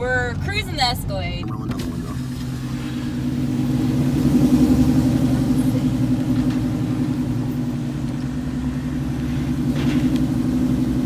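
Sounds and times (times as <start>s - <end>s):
car engine and road drone: 0.0s - 11.0s.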